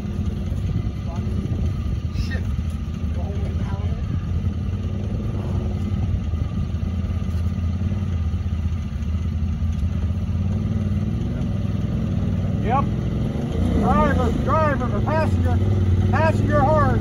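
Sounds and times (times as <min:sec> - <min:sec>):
utility vehicle engine droning: 0:00.0 - 0:17.0.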